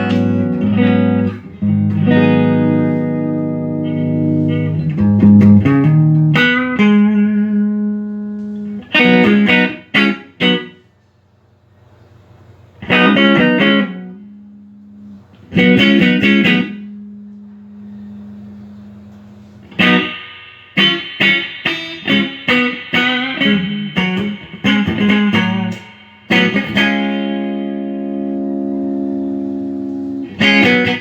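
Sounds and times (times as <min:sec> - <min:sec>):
electric guitar chords: 0:00.0 - 0:10.9, 0:12.4 - 0:31.0.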